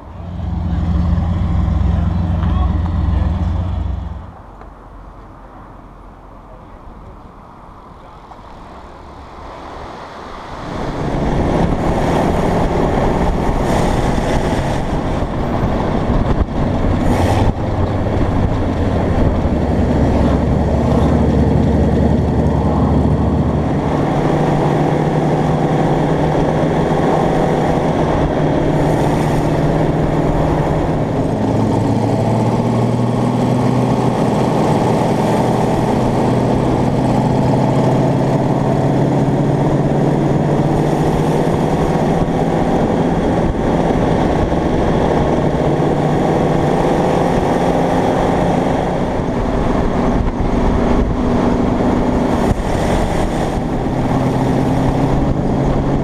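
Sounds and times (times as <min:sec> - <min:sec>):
loud hot rod engine: 0:00.0 - 0:04.4, 0:10.7 - 0:56.0.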